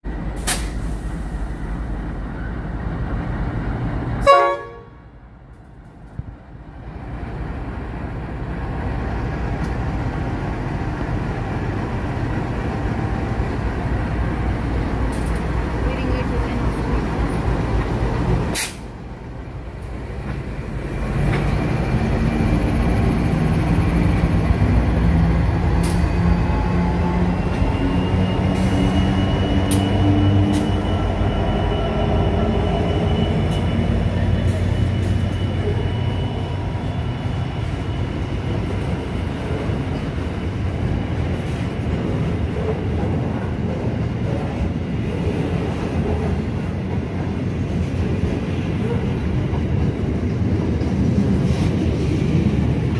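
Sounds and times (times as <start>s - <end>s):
diesel locomotive engines: 0.0s - 52.9s
freight wagons rumbling on rails: 0.0s - 52.9s.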